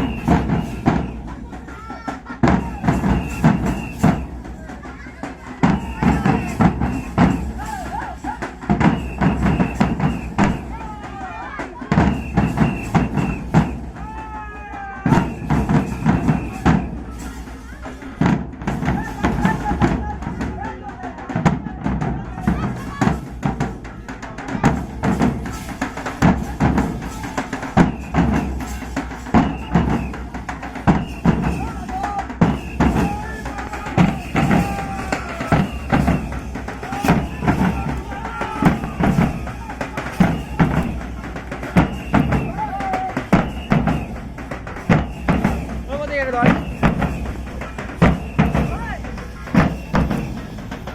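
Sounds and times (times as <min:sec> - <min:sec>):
drums beaten with sticks: 0:00.0 - 0:50.9.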